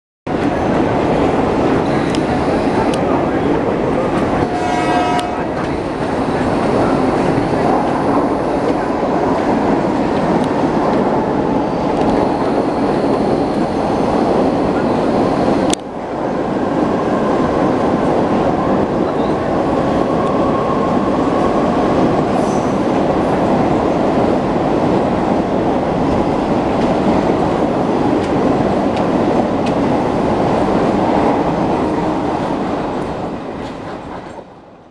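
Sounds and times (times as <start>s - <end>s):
train wheels rumbling on rails: 0.3s - 34.9s.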